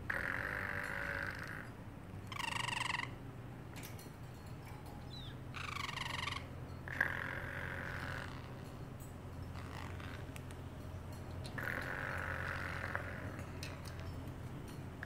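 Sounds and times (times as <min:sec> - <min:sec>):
parrotlet calling: 0:00.0 - 0:03.2, 0:05.0 - 0:14.4.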